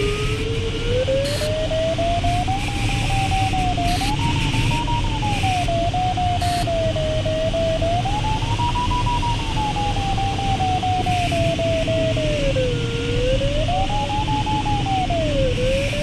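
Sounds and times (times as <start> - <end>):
variometer tone sliding in pitch: 0.0 - 16.0.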